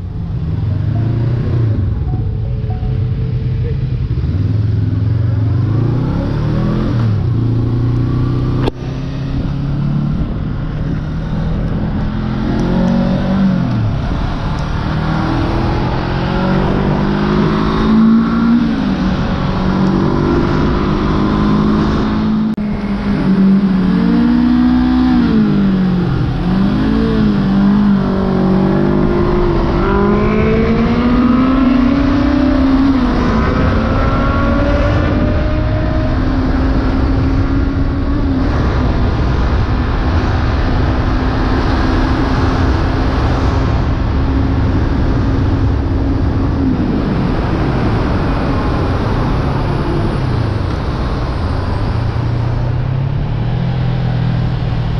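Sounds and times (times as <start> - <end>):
motorcycle engine accelerating: 0.0 - 54.9
wind noise: 0.0 - 54.9.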